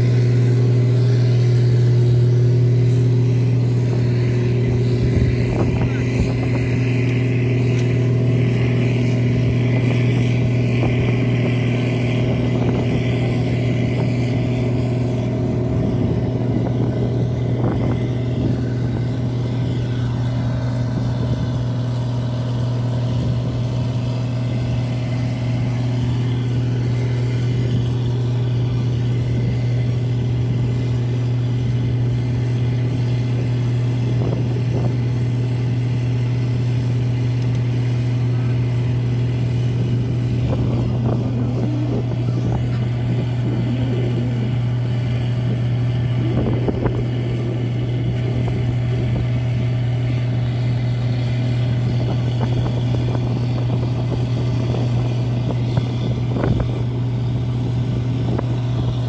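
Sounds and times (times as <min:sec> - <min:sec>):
engine idling: 0:00.0 - 0:59.0
faint high whine: 0:00.0 - 0:59.0.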